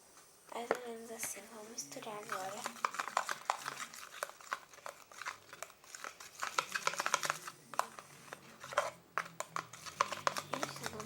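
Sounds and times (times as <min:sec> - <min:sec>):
utensil scraping and clicking: 0:00.6 - 0:11.0
wet squishing: 0:01.2 - 0:11.0.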